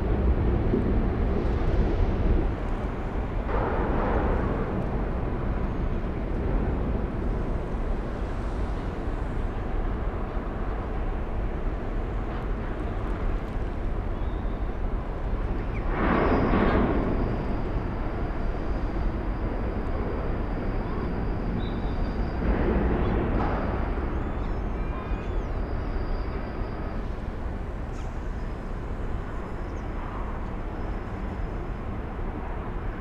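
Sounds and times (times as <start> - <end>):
ferry engines rumbling: 0.0 - 33.0.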